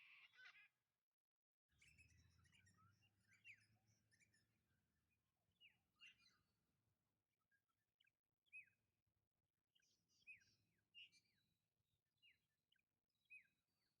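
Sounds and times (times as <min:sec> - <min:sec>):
faint bird chirping: 0:00.0 - 0:00.9, 0:01.7 - 0:14.0.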